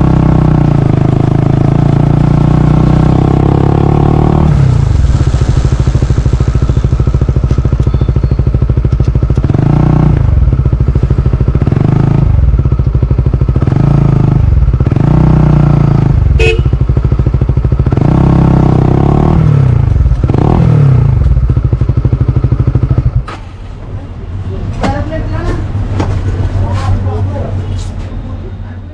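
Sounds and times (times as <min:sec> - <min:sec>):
motorcycle engine revving: 0:00.0 - 0:23.7.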